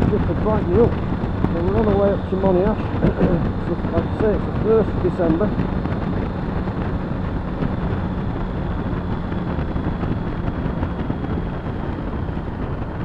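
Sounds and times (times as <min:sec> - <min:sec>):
motorcycle engine cruising: 0:00.0 - 0:13.0
wind rush on microphone: 0:00.0 - 0:13.0.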